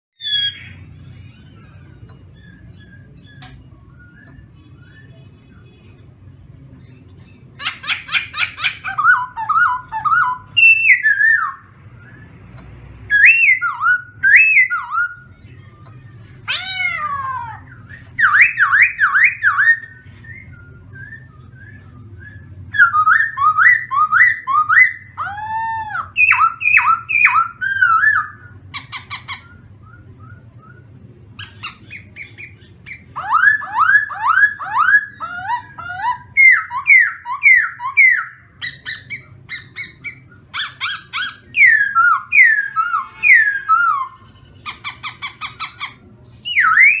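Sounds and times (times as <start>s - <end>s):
bird singing whistled phrases: 0.2s - 5.9s, 7.6s - 12.4s, 13.1s - 47.0s.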